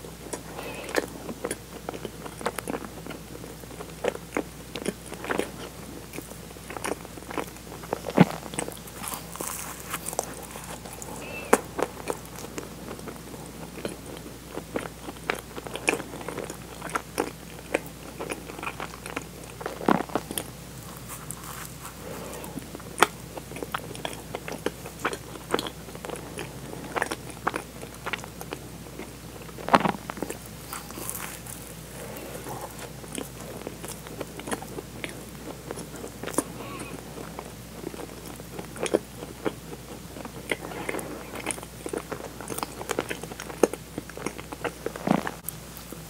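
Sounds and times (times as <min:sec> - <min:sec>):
chewing and biting donut: 0:00.2 - 0:46.0.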